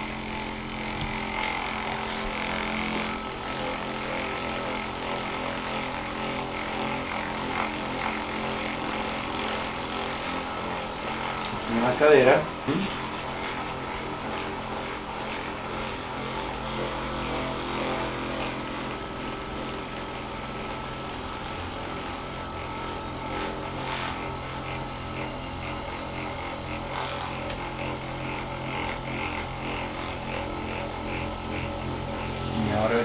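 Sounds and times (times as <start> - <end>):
electric massager motor hum: 0.0 - 33.0.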